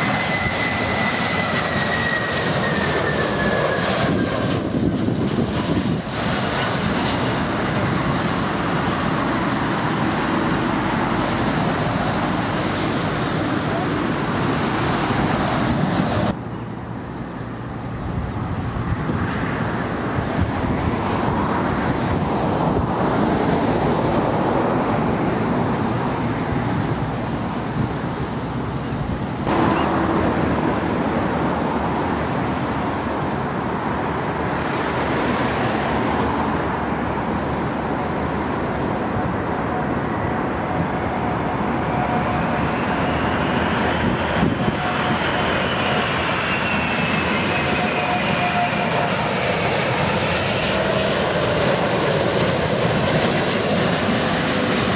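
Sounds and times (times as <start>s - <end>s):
jet airliner noise: 0.0s - 54.9s
jet engine whine: 0.0s - 54.9s
wind rushing over microphone: 0.0s - 54.9s.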